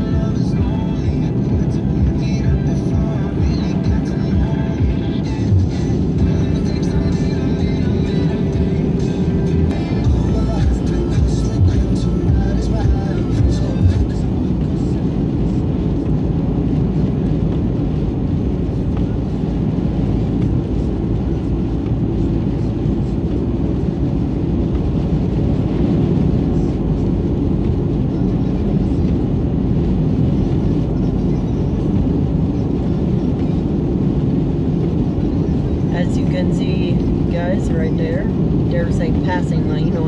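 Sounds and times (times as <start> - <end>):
car cabin road and engine rumble: 0.0 - 40.0.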